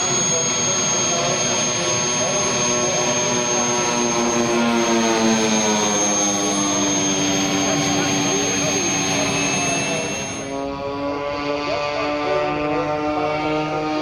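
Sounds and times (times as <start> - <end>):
model aircraft turbine whine: 0.0 - 14.0
propeller drone: 0.0 - 14.0.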